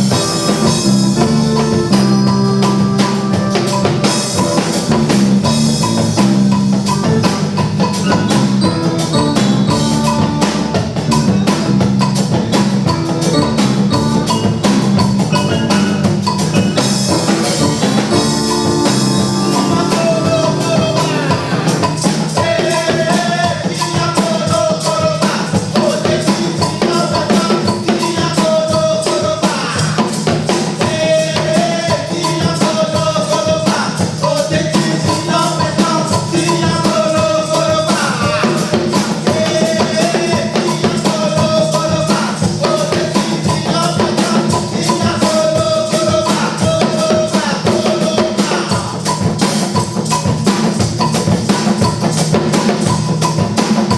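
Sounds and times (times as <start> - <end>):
music with busy drum beat: 0.0 - 53.9.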